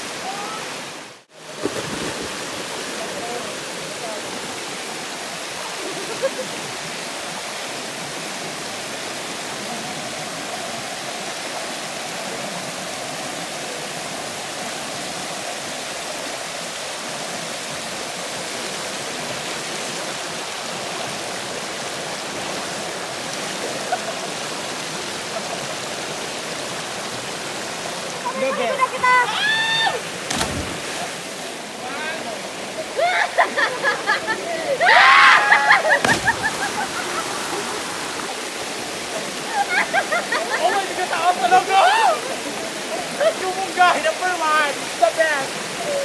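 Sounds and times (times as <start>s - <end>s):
flowing river water: 0.0s - 46.0s.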